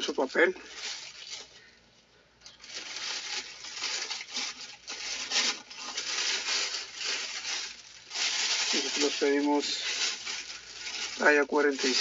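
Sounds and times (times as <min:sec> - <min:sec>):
paper and plastic bag rustling: 0:00.0 - 0:01.8, 0:02.5 - 0:12.0.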